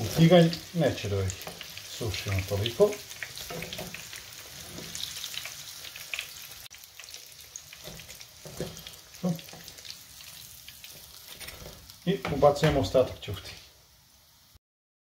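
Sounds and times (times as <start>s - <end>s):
hot oil sizzling in a frying pan: 0.0s - 14.6s.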